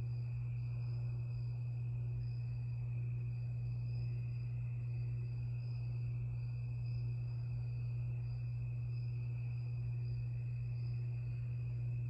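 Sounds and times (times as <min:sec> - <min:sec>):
ceiling fan motor hum: 0:00.0 - 0:12.0.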